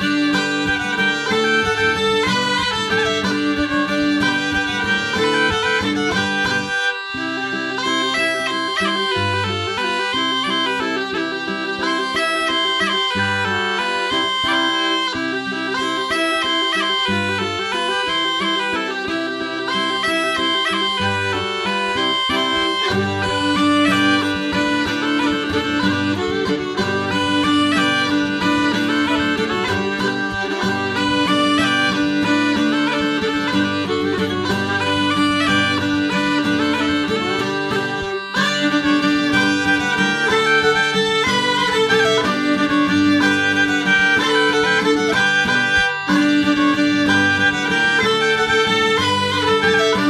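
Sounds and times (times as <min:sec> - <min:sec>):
instrumental folk dance tune: 0:00.0 - 0:50.0.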